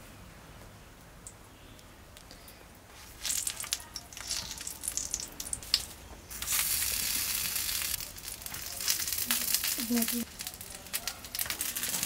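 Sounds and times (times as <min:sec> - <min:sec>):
oil sizzling and crackling: 0:02.1 - 0:12.0.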